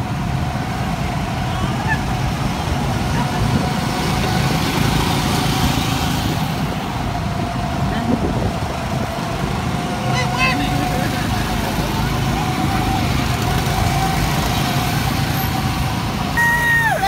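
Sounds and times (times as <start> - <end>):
go-kart engines running: 0.0 - 17.0.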